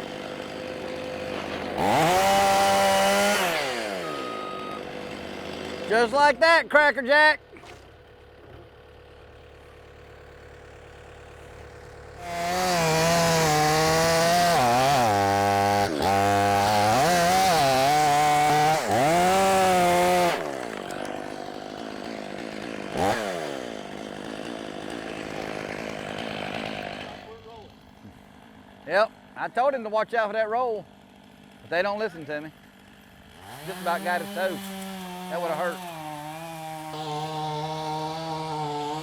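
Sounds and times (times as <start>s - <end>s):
chainsaw cutting wood: 0.0s - 39.0s
chainsaw idling and revving: 0.0s - 39.0s.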